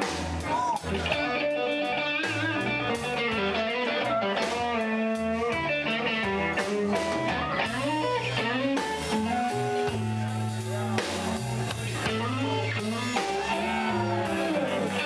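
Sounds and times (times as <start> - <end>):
bass line: 0.0 - 15.0
blues-rock electric guitar: 0.0 - 15.0.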